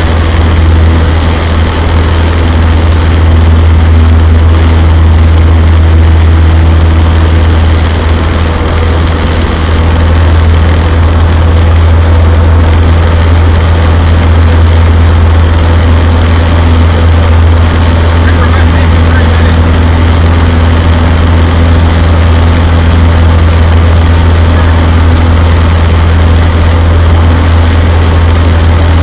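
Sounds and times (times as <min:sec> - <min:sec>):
aircraft engine droning: 0:00.0 - 0:29.0.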